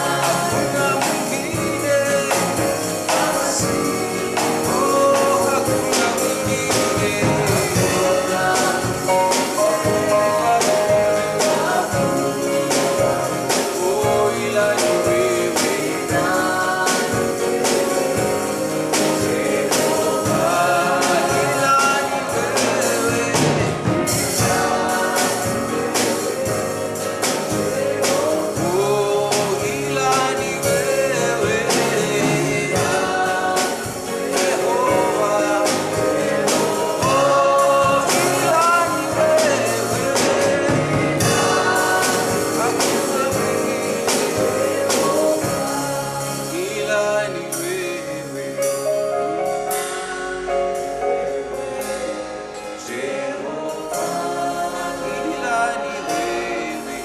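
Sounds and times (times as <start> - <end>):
steady drum beat: 0.0 - 48.0
band playing: 0.0 - 57.0
voices singing: 0.0 - 57.0.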